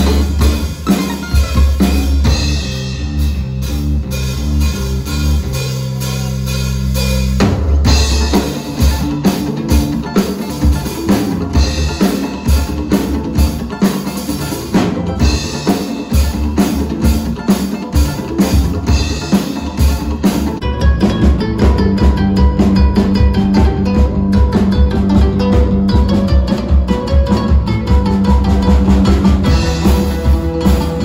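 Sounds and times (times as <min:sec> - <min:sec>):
bass notes: 0:00.0 - 0:31.0
drum kit beat: 0:00.0 - 0:31.0.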